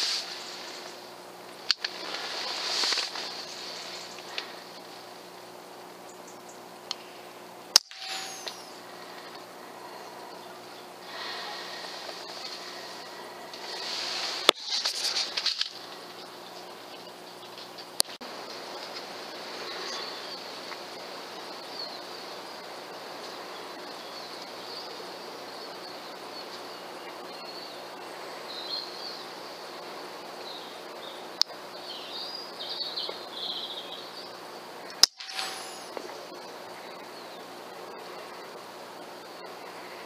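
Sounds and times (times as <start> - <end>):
small birds chirping: 0.0 - 40.0
steady outdoor hiss: 0.0 - 40.0.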